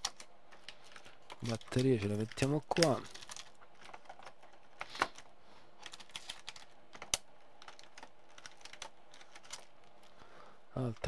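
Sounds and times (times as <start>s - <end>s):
small parts clicking and clattering: 0.0s - 10.2s.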